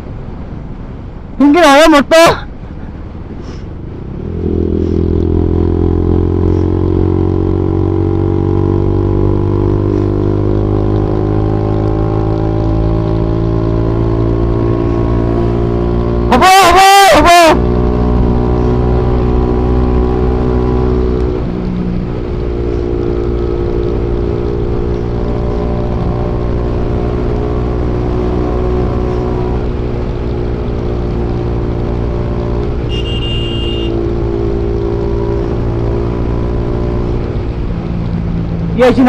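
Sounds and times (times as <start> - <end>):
motorcycle engine running: 4.4 - 39.0.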